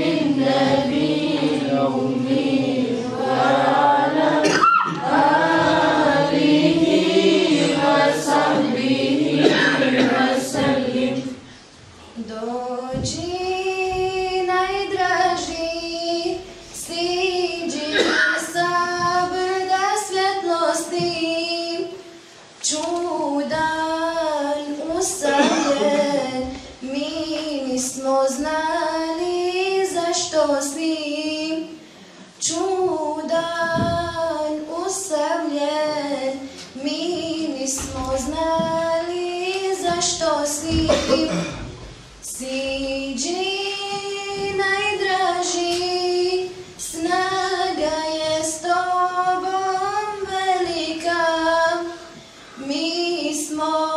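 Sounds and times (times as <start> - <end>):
girl singing devotional song: 0.0 - 53.9.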